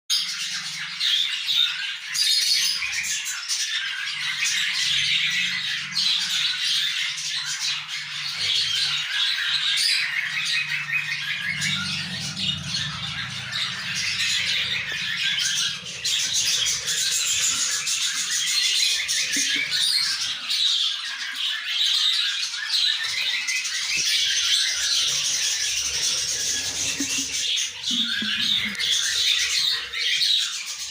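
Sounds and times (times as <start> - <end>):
budgerigars squawking and chirping: 0.1 - 30.9.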